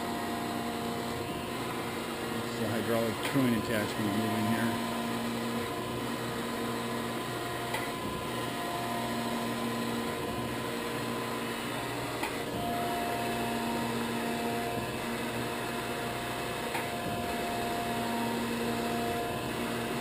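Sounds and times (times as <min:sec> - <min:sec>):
surface grinder humming: 0:00.0 - 0:20.0.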